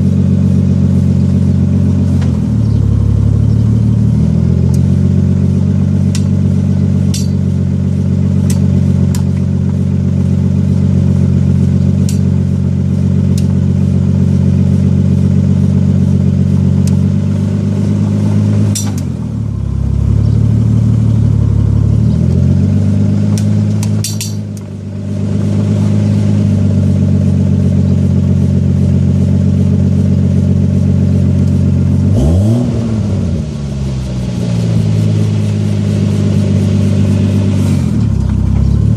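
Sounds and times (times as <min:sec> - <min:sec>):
car engine running and revving: 0:00.0 - 0:38.9.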